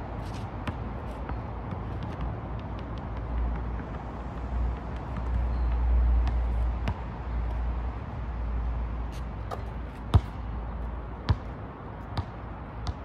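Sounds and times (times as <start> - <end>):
basketball bouncing on asphalt: 0.1 - 7.8, 9.1 - 13.0.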